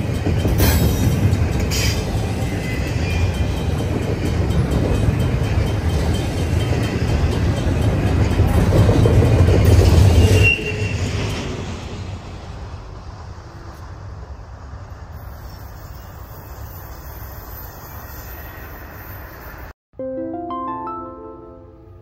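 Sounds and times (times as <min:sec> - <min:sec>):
train wheels rumbling on rails: 0:00.0 - 0:19.7.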